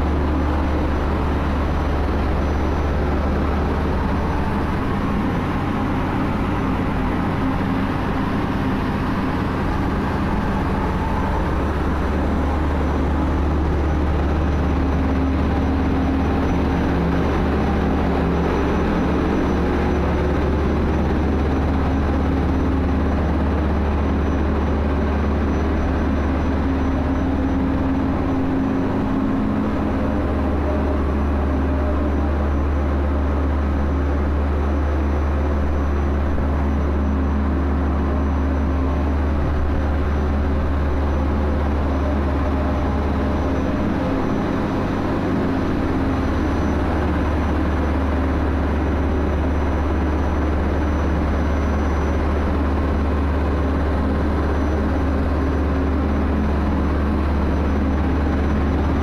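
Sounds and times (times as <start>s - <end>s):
engine-room machinery hum: 0.0s - 59.0s.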